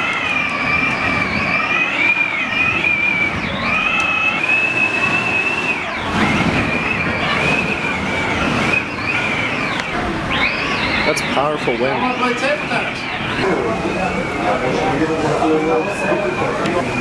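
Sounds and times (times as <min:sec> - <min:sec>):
wind whistling through door gaps: 0:00.0 - 0:17.0.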